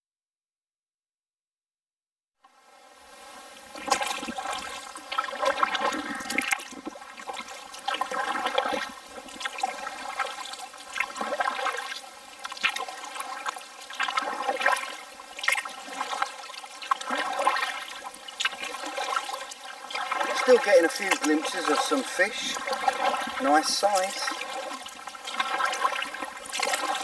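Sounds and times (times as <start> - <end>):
paddle splashing through water: 3.7 - 27.0
water trickling off paddle: 3.7 - 27.0.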